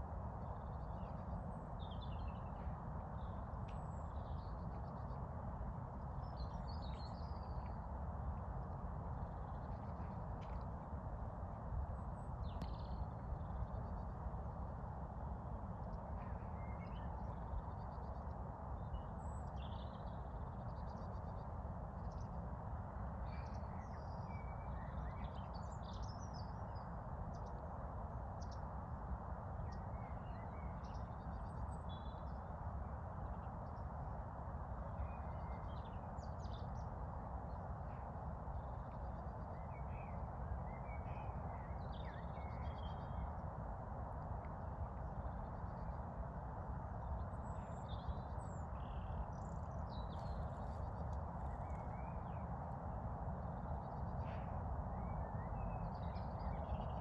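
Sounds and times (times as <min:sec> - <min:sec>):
songbirds chirping: 0:00.1 - 0:57.0.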